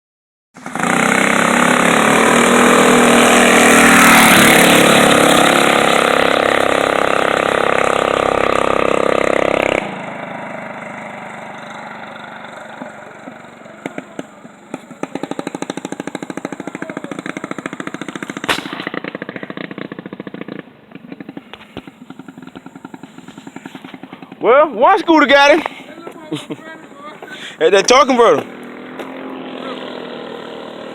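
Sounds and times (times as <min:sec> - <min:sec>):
mini bike engines revving: 0:00.6 - 0:30.9.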